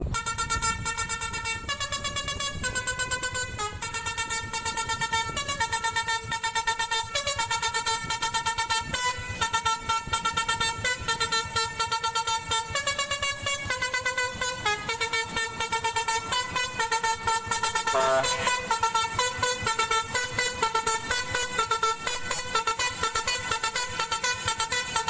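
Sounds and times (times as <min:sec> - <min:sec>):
musical bus horn playing a tune: 0:00.0 - 0:25.0.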